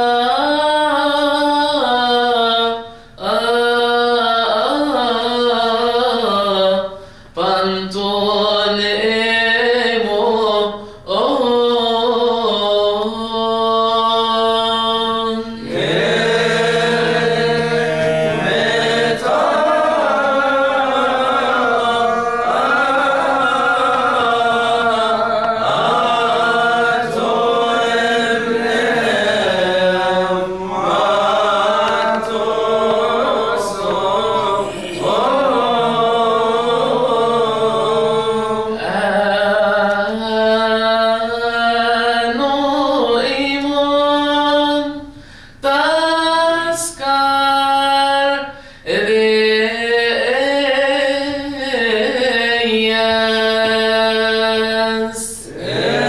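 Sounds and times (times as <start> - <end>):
men chanting a hymn: 0.0 - 44.8, 45.6 - 56.0.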